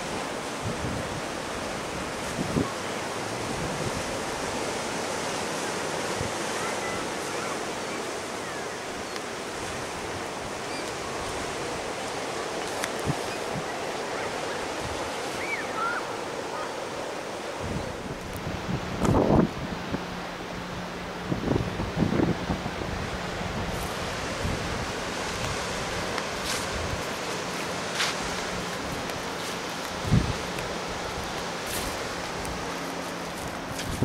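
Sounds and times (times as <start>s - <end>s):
ocean surf breaking on rocks: 0.0s - 34.0s.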